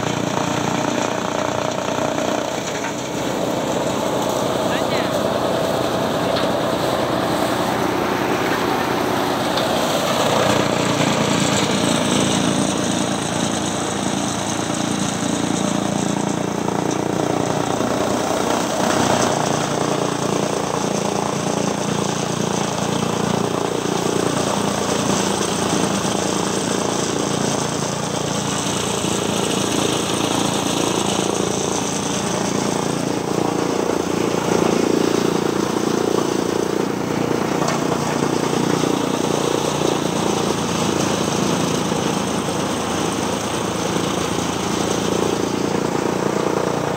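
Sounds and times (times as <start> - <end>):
chaff cutter chopping stalks: 0.0 - 46.9
engine drone: 0.0 - 46.9.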